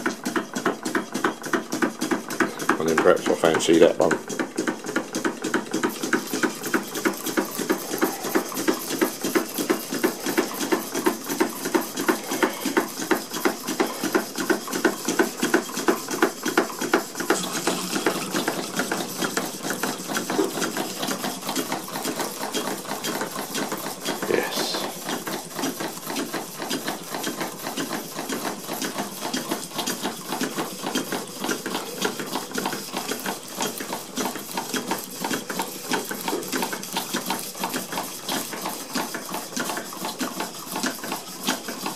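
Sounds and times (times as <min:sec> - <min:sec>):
model steam engines clattering: 0:00.0 - 0:41.9.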